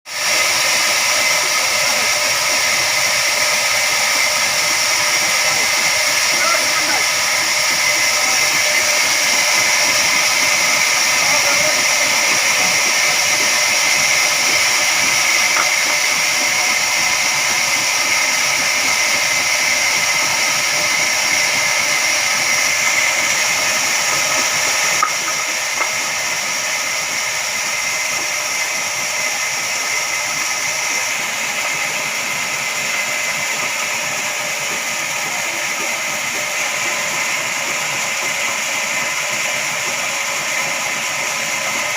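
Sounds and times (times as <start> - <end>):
band saw cutting log: 0.1 - 41.9.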